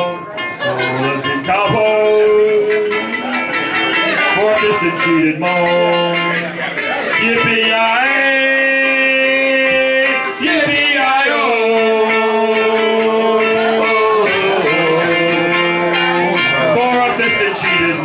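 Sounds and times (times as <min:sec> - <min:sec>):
man singing wordless melody: 0:00.0 - 0:18.0.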